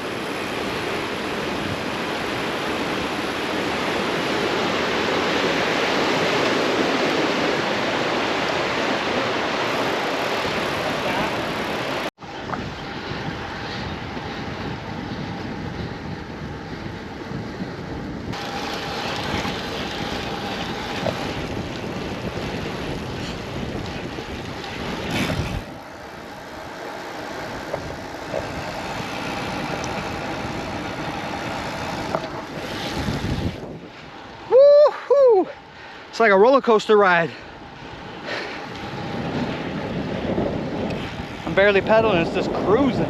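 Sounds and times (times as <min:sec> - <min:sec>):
bicycle tyre noise: 0:00.0 - 0:43.0
wind rushing over microphone: 0:00.0 - 0:43.0.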